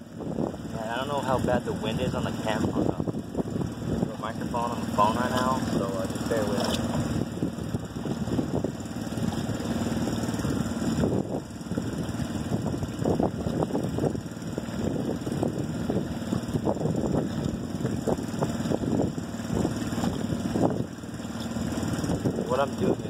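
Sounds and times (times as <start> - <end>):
steady low hum: 0.0 - 23.0
wind buffeting microphone: 0.0 - 23.0.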